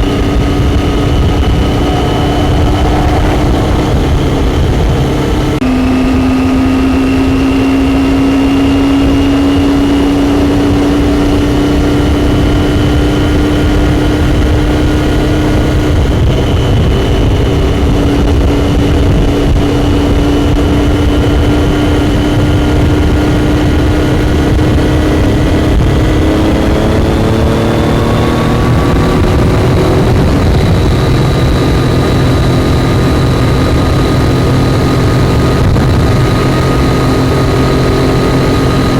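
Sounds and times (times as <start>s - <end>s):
low rush of wind: 0.0s - 38.9s.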